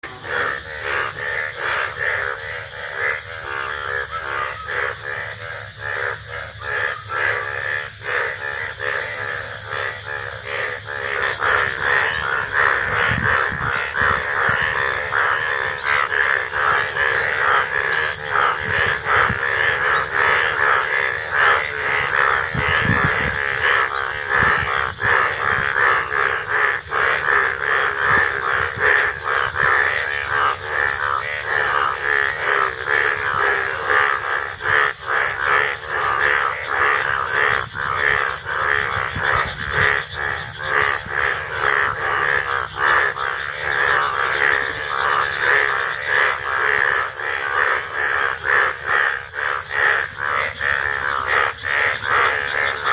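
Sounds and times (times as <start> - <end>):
frogs croaking in chorus: 0.0 - 52.9.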